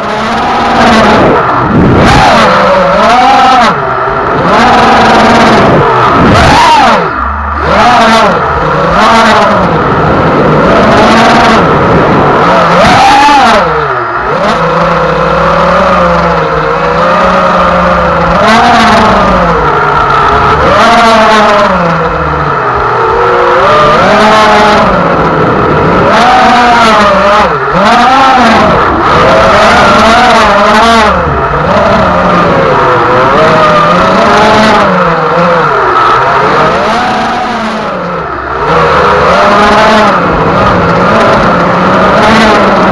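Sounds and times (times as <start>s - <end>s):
toy speedboat motor running: 0.0s - 42.9s.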